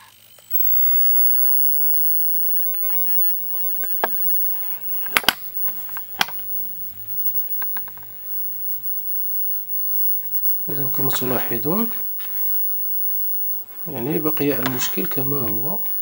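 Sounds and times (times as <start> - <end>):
faint low hum: 0.0 - 16.0
sharp clicks: 0.5 - 16.0.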